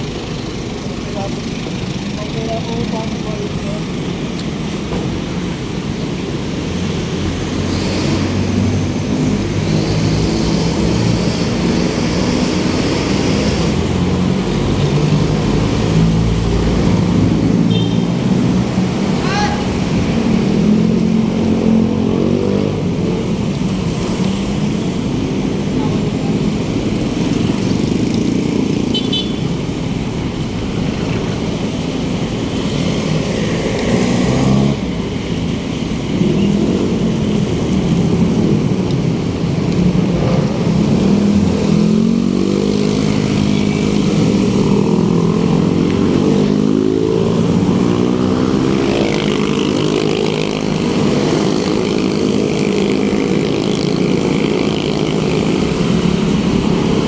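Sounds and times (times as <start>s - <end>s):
vehicle engine: 0.0s - 57.0s.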